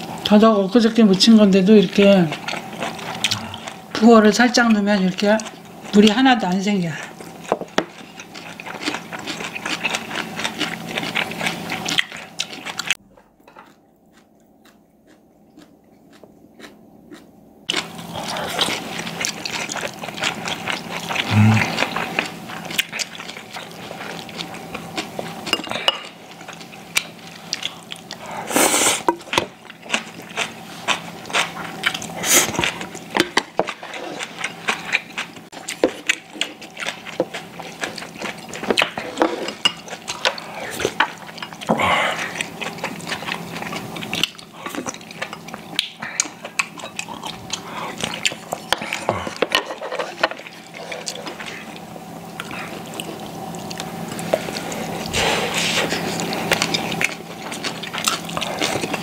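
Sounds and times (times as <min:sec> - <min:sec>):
person chewing: 0:02.0 - 0:04.0, 0:07.0 - 0:59.0.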